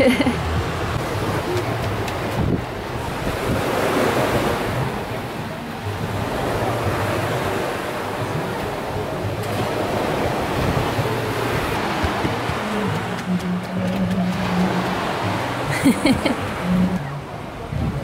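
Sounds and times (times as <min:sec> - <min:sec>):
wind buffeting microphone: 0:00.0 - 0:15.7, 0:16.3 - 0:18.0
sea surf breaking on shore: 0:00.0 - 0:18.0.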